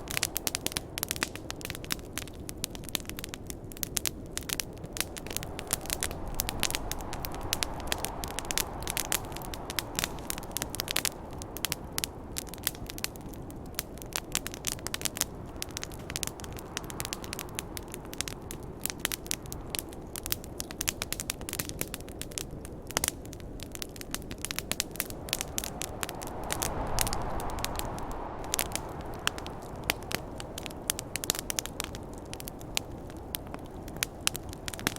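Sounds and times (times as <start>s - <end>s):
campfire crackling and popping: 0.0s - 34.9s
rushing snowstorm wind: 0.0s - 34.9s.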